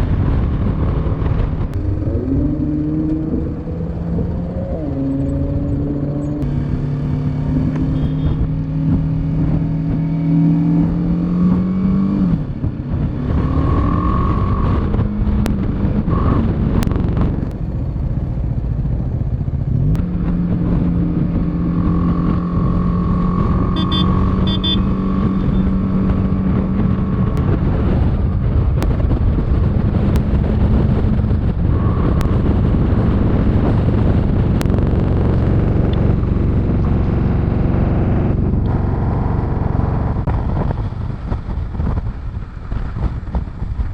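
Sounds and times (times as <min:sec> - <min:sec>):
motorcycle engine running: 0:00.0 - 0:43.9
road and wind noise: 0:00.0 - 0:43.9.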